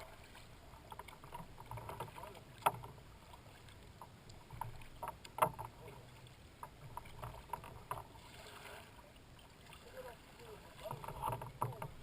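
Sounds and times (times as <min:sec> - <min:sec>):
paddle splashing in water: 0:00.0 - 0:12.0
paddle swishing through water: 0:00.0 - 0:12.0.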